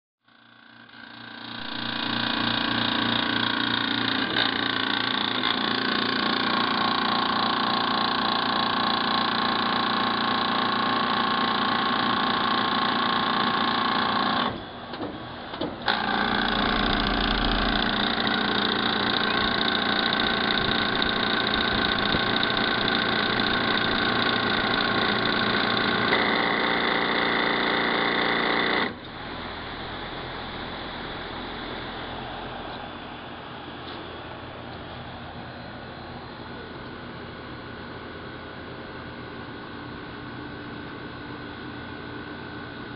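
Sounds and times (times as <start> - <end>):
air conditioner buzzing: 0.3 - 42.9.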